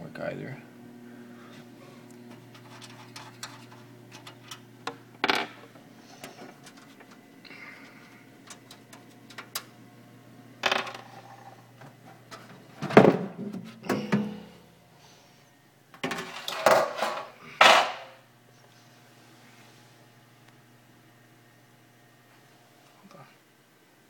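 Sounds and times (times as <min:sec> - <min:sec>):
computer case vibration hum: 0:00.0 - 0:15.9, 0:17.4 - 0:24.0.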